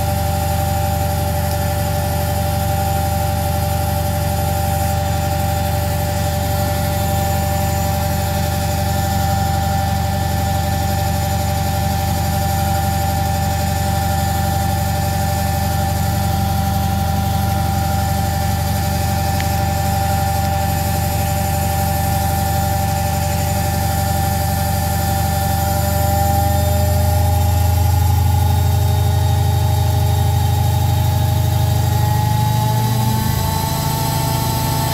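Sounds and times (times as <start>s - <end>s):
washing machine humming and whining: 0.0s - 34.9s.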